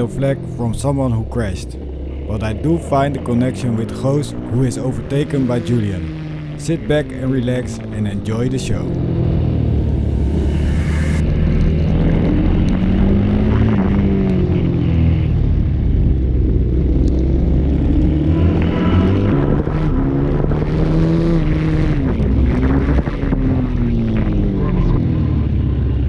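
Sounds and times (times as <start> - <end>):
motorcycle engine racing: 0.0 - 26.0.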